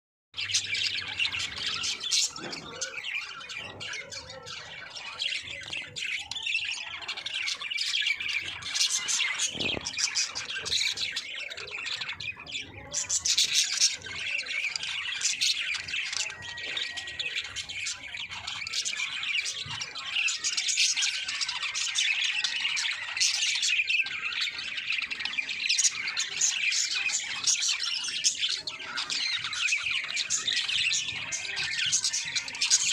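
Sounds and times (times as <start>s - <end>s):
budgerigars chirping: 0.4s - 32.9s
budgies squawking: 0.4s - 32.9s.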